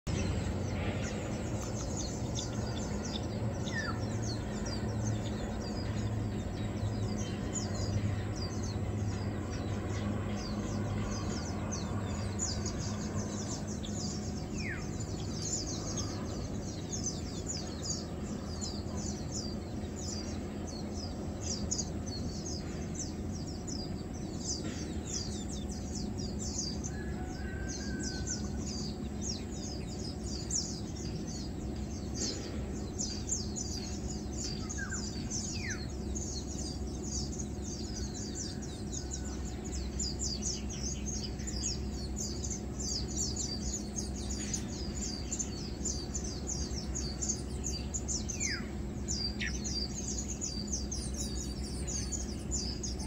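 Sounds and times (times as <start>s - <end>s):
small birds chirping: 0.0s - 53.0s
steady low hum: 0.0s - 53.0s
lower bird calls: 0.1s - 53.0s.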